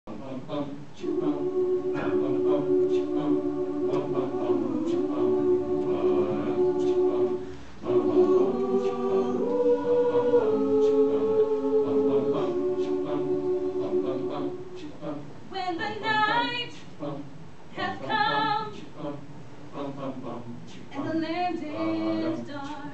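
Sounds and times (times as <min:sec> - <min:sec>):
mixed choir singing a cappella: 0:00.1 - 0:22.9.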